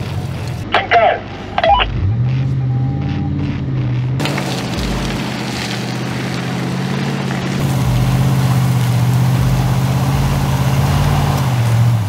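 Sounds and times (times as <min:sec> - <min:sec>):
engine pulling under load: 0:00.0 - 0:12.0.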